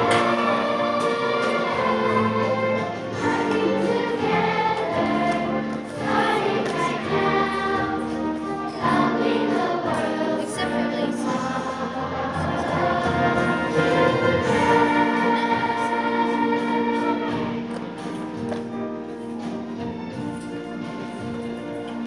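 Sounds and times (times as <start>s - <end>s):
children's choir singing: 0.0s - 20.2s.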